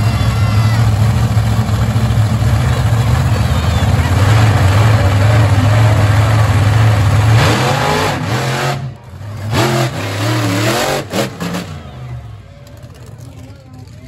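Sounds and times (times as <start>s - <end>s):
monster truck engines revving: 0.0s - 14.0s.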